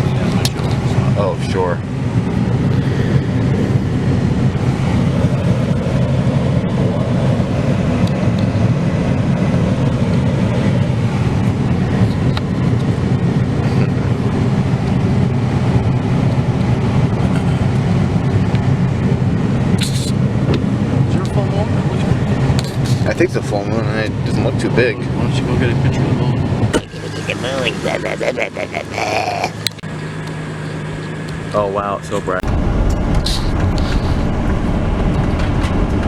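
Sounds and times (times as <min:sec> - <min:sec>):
vehicle rumble inside cabin: 0:00.0 - 0:36.0.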